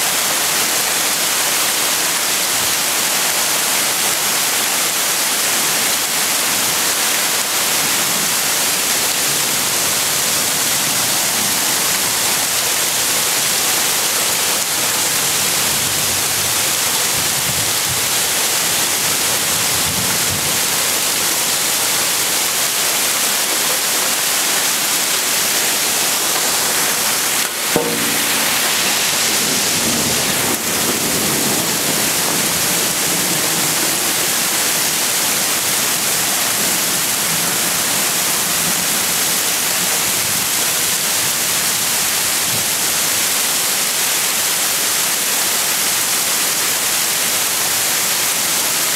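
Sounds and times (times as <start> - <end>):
hail falling: 0.0 - 48.9.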